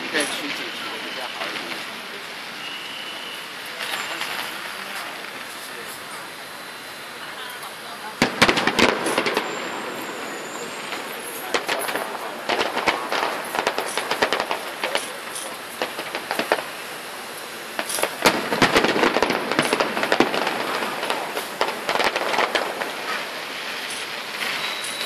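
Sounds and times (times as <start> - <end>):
fireworks bangs: 0.0 - 25.0
fireworks crackling and popping: 0.0 - 25.0.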